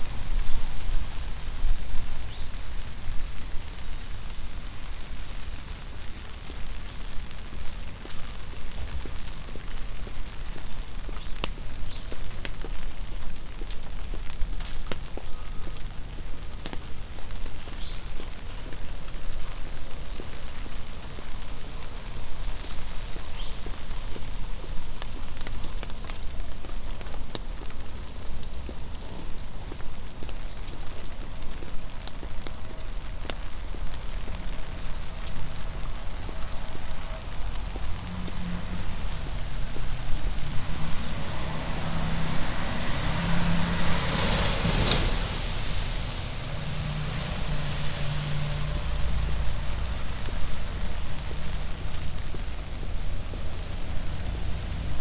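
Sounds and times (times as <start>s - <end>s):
car tyres hissing on wet street: 0.0s - 55.0s
rain on wet pavement: 0.0s - 55.0s.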